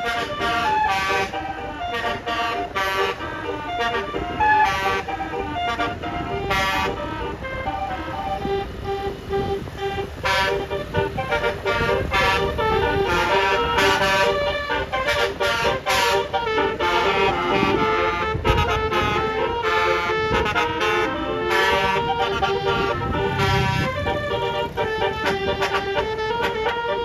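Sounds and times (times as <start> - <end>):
multi-tone air horn melody: 0.0 - 27.0.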